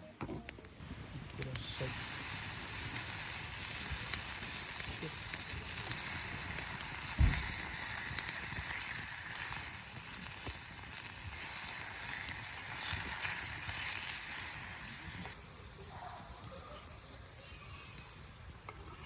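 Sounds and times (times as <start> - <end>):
fire crackling and popping: 0.0 - 19.0
steady hiss: 0.8 - 19.0.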